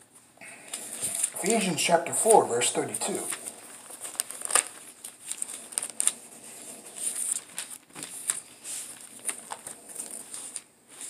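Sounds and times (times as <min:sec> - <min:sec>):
paper pages turning: 0:00.6 - 0:11.0.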